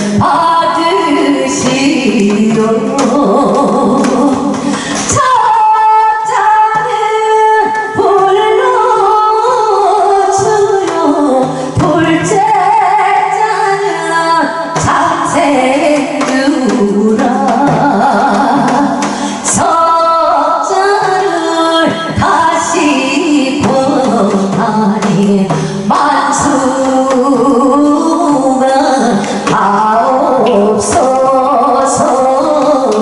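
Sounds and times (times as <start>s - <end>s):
drum strokes: 0.0s - 33.0s
person singing folk song: 0.0s - 33.0s.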